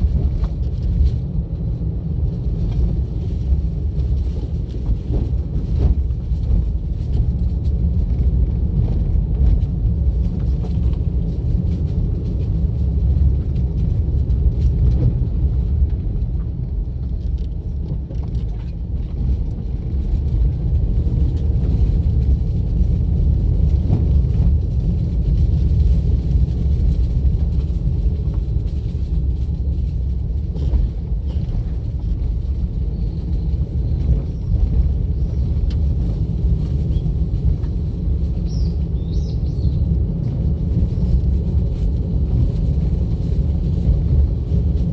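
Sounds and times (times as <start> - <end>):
car driving on road: 0.0 - 44.9.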